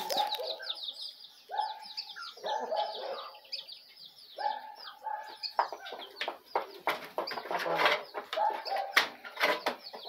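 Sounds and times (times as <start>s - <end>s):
hens clucking: 0.0s - 0.9s, 1.6s - 10.0s
drawn-out hen calls: 0.0s - 10.0s.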